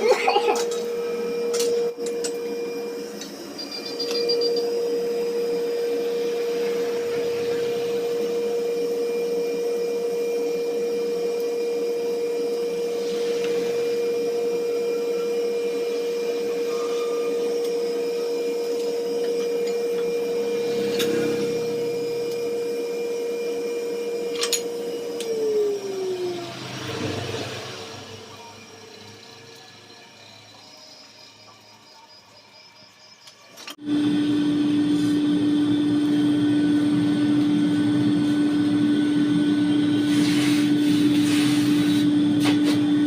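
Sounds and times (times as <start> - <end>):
power tool motor running: 0.4 - 31.0, 33.7 - 43.0.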